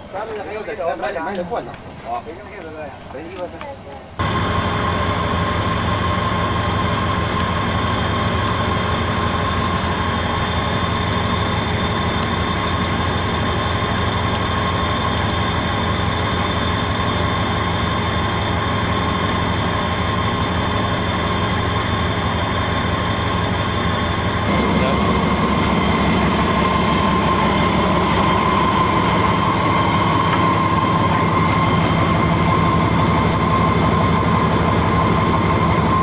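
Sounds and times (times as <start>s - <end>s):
passenger train rolling rumble: 0.0s - 36.0s.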